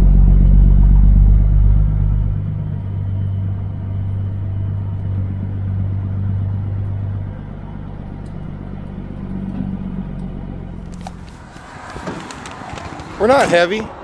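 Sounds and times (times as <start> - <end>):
truck diesel engine drone: 0.0 - 14.0.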